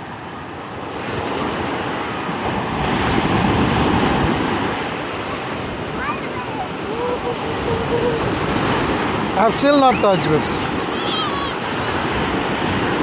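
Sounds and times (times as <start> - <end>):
ocean waves washing: 0.0 - 13.0.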